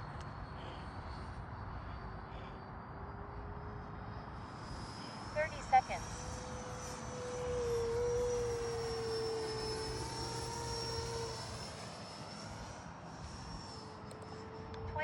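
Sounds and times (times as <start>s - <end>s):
model jet high whine: 0.0s - 15.0s.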